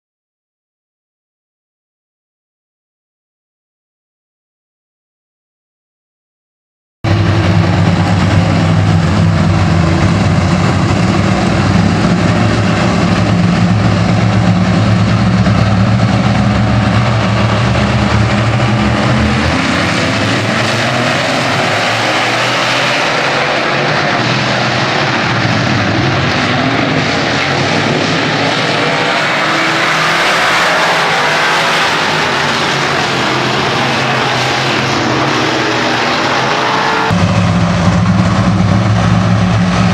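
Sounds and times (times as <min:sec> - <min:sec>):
racing engines revving and passing: 0:07.1 - 0:39.9.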